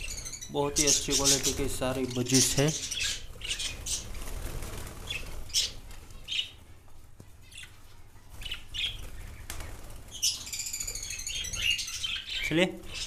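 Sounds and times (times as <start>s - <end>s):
budgerigars chirping: 0.0s - 4.4s, 5.0s - 6.6s, 7.4s - 13.0s
wings flapping: 0.8s - 13.0s.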